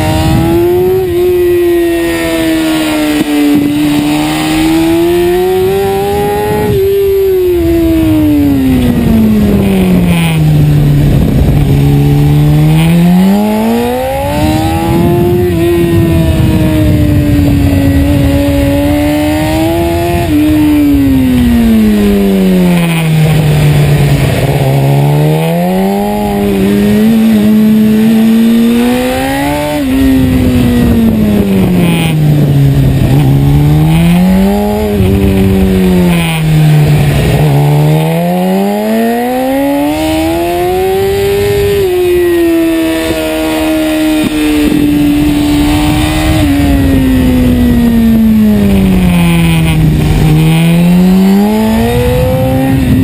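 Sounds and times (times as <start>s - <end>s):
motorcycle engine revving: 0.0s - 53.0s
wind rush: 0.0s - 53.0s.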